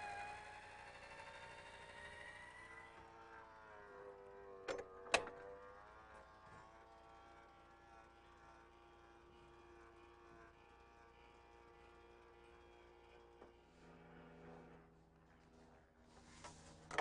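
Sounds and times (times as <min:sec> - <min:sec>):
platform lift electric motor hum: 0:00.0 - 0:17.0.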